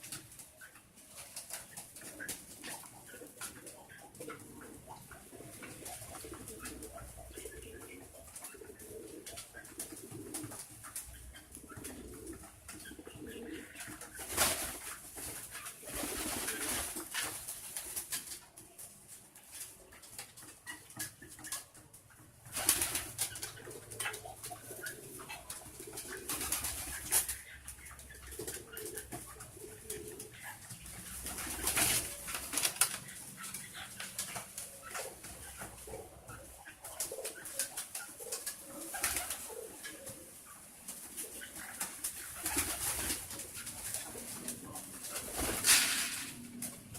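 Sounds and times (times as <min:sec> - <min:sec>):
pigeons cooing: 0:00.0 - 0:17.4, 0:19.8 - 0:46.9.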